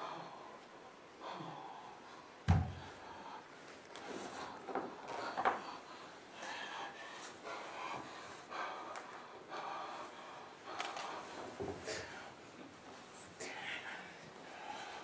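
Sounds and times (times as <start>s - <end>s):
person breathing hard: 0.0s - 12.6s, 13.3s - 15.0s.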